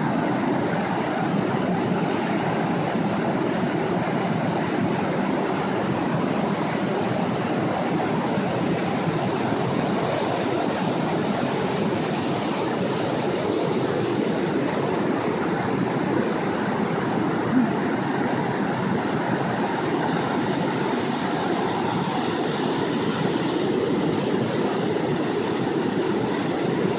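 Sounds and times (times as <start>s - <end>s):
whitewater rushing over rocks: 0.0s - 26.9s.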